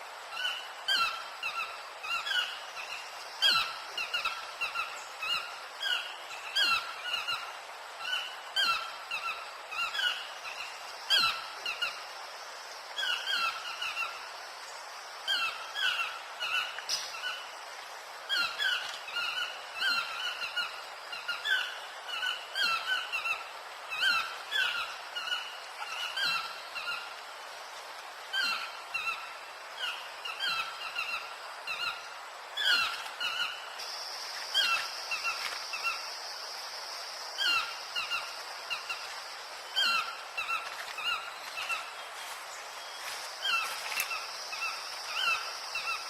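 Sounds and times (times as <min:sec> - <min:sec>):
steady high hiss: 0:00.0 - 0:46.0.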